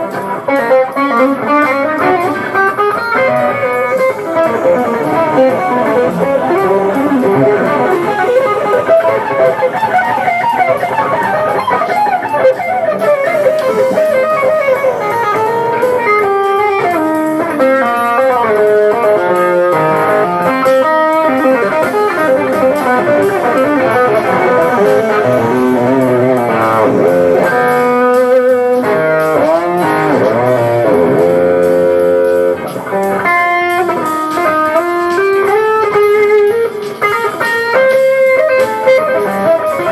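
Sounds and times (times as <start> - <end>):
electric guitar jazz fusion: 0.0 - 39.9.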